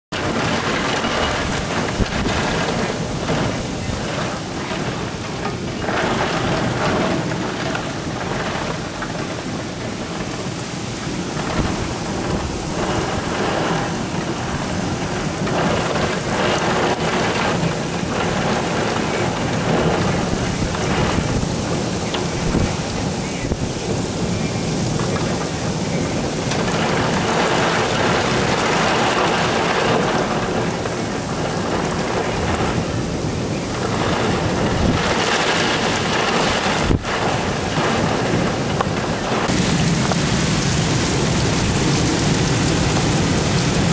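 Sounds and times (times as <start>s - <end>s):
heavy rain hissing: 0.2s - 43.9s.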